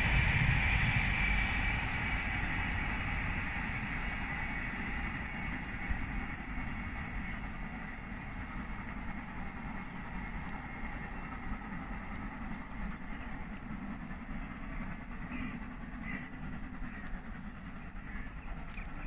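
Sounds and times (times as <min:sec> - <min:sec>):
electric train rolling: 0:00.0 - 0:19.0.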